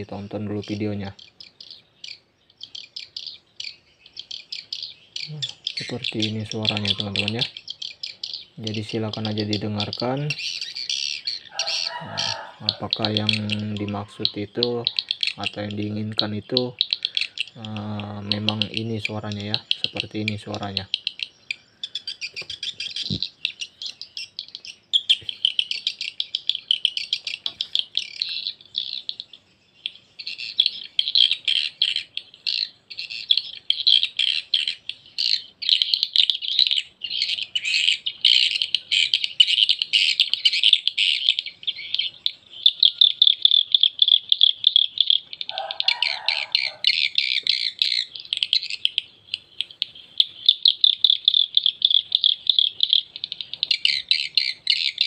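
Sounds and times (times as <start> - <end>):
high twittering bird chirps: 0.0 - 55.0.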